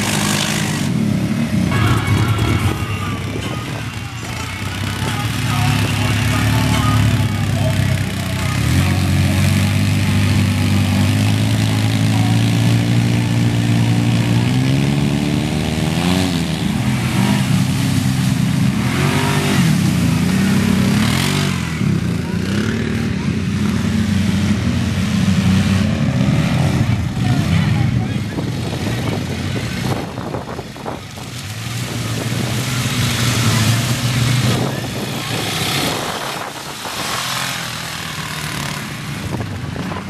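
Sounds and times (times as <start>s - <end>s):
off-road vehicle engines revving: 0.0s - 40.0s.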